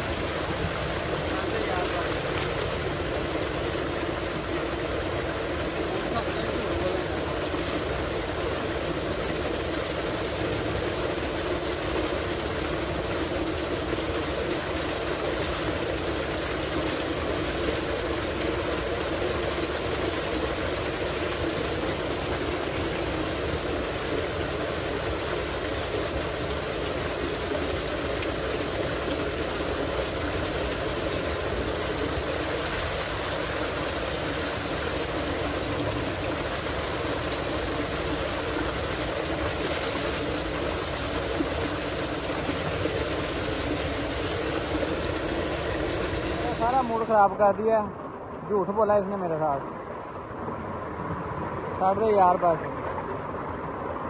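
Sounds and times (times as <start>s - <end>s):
pump drone: 0.0s - 54.0s
water gushing into a concrete tank: 0.0s - 54.0s.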